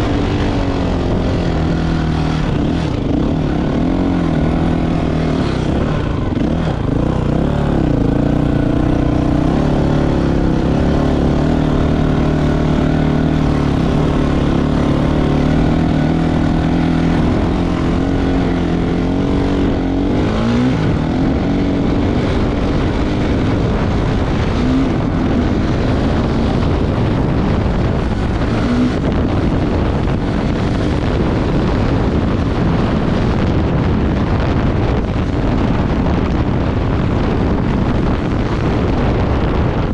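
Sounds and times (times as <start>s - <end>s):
racing engine running hard: 0.0s - 39.9s
rushing noise: 0.0s - 39.9s.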